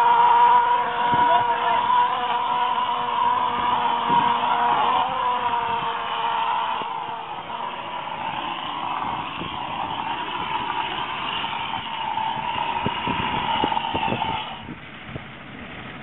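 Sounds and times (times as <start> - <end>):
hiss of spraying hose: 0.0 - 14.8
motor drone: 0.0 - 16.0.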